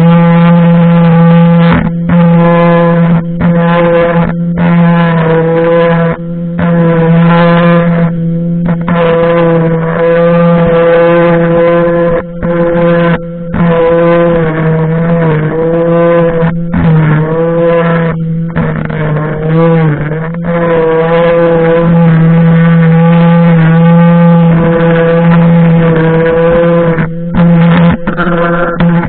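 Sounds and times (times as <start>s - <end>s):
electric string trimmer humming: 0.0s - 29.0s.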